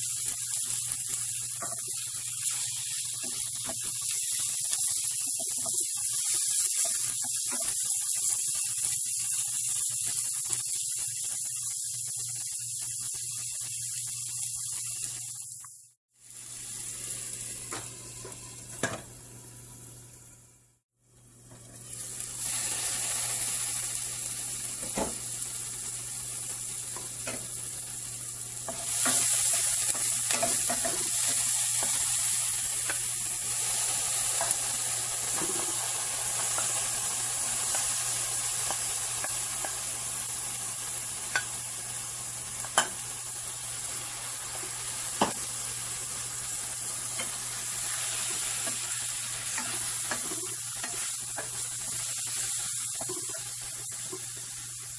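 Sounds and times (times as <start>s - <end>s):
food sizzling in hot oil: 0.0s - 20.3s, 21.4s - 54.9s.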